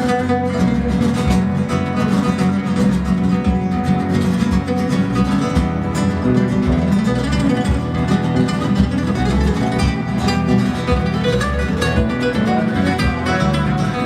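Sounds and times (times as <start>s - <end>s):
flamenco acoustic guitars: 0.0s - 14.0s.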